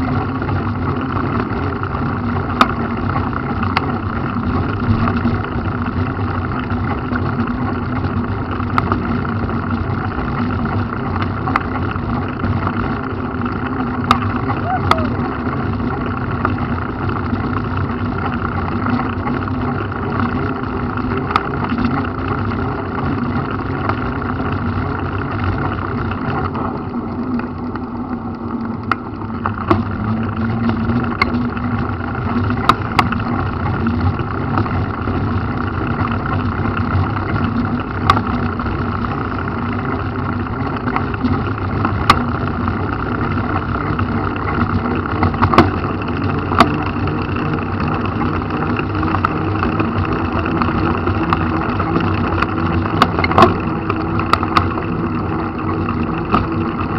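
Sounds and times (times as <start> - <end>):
low hum: 0.0 - 56.9
vehicle on wet road: 0.0 - 56.9.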